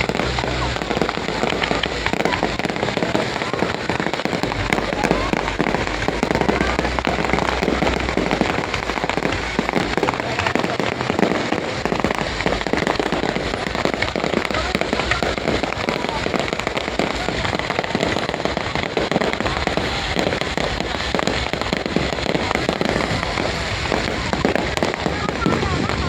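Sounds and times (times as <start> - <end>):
fireworks cracks and pops: 0.0 - 26.0
fireworks low booms: 0.0 - 26.0.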